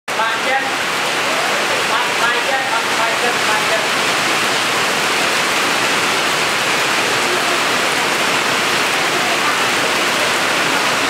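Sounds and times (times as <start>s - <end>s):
heavy rain pouring: 0.1s - 11.0s.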